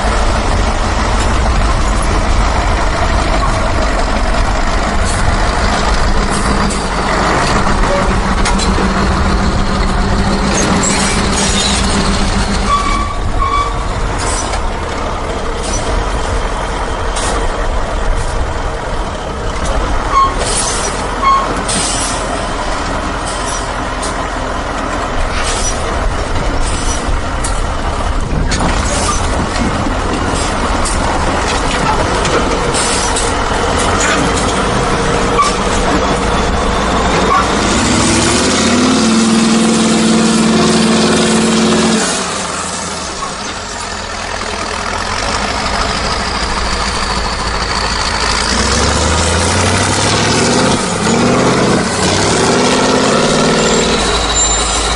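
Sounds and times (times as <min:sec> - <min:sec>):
truck engine rumbling: 0:00.0 - 0:54.9.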